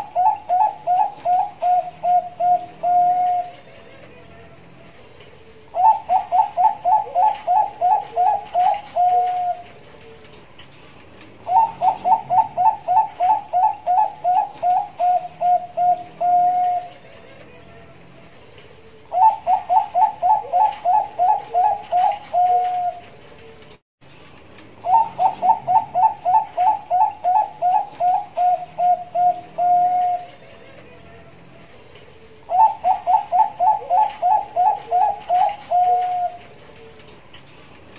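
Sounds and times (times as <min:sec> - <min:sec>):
dove cooing: 0:00.0 - 0:10.5, 0:11.4 - 0:23.7, 0:24.8 - 0:37.1.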